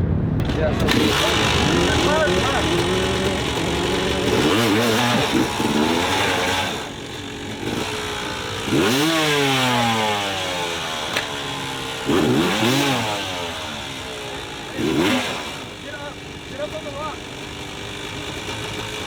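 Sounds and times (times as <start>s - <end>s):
motorcycle engine revving: 0.1s - 19.0s.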